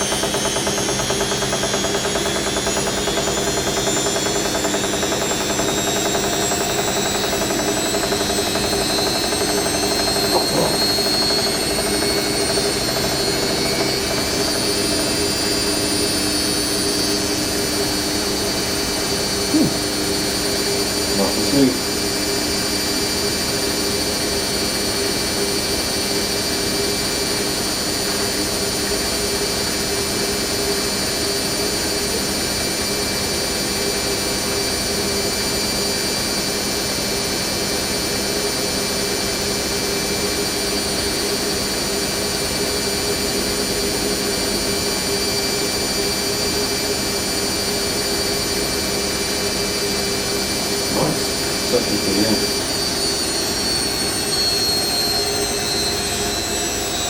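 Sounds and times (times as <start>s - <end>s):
washing machine spinning with whine: 0.0s - 57.0s.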